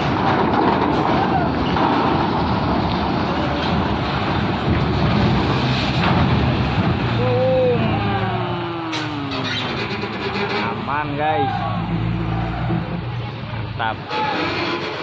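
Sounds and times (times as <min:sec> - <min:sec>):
tyres rolling over steel grating: 0:00.0 - 0:07.4, 0:09.4 - 0:13.2, 0:13.9 - 0:15.0
truck engine rumbling: 0:00.0 - 0:15.0.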